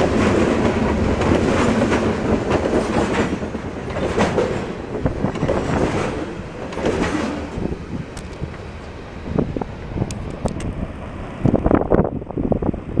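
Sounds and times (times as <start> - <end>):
wheels clacking over rail joints: 0.0 - 11.8
freight train rolling past: 0.0 - 13.0.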